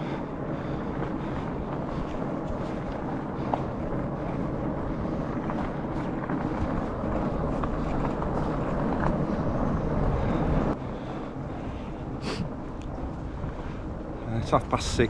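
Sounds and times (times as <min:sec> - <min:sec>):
wide tyres rolling over ground: 0:00.0 - 0:15.0
wind on microphone: 0:00.0 - 0:15.0.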